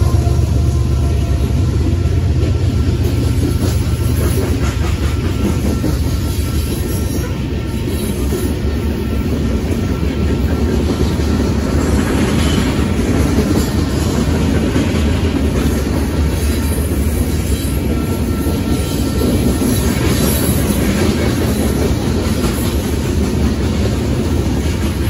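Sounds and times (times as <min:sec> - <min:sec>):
freight train rumbling past: 0:00.0 - 0:25.0
steel wheels clacking on rails: 0:00.0 - 0:25.0.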